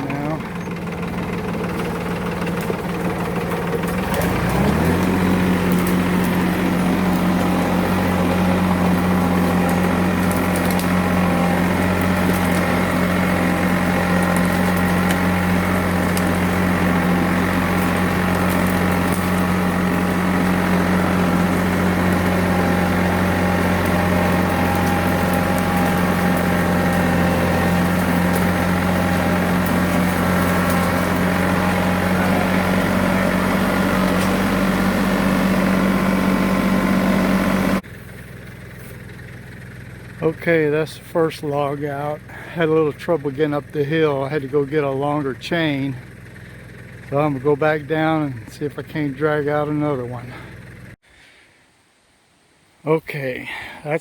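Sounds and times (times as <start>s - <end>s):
tractor engine under load: 0.0s - 51.0s.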